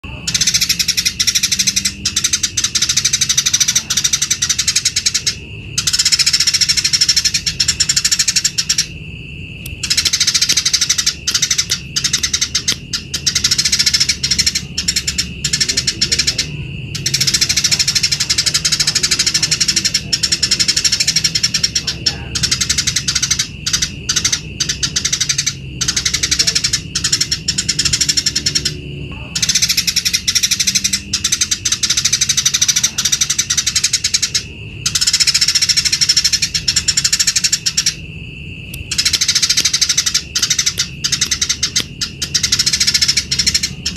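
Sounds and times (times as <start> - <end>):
sparrows chirping: 0.0 - 43.9.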